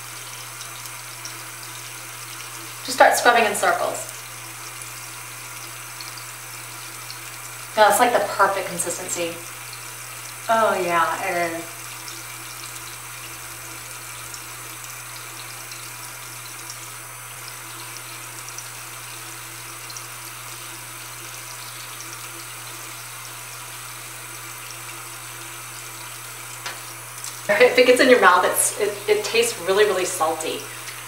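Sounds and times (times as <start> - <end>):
water tap running into sink: 0.0 - 31.0.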